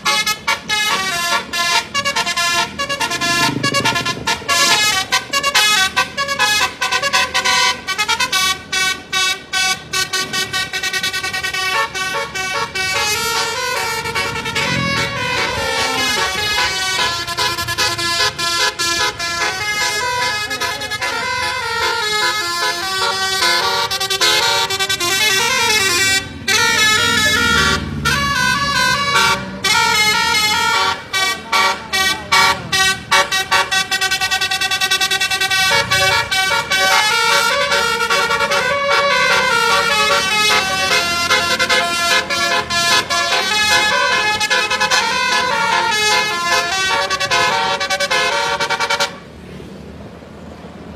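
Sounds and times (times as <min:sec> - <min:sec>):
multi-tone bus horn melody: 0:00.0 - 0:49.3
bus engine rumble: 0:00.0 - 0:50.9.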